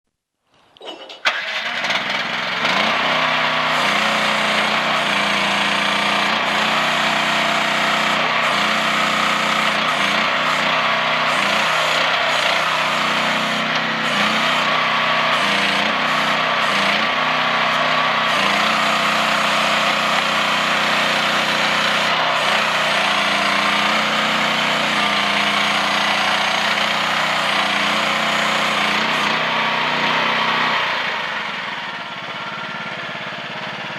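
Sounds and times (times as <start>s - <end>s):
small excavator engine running: 0.8s - 33.9s.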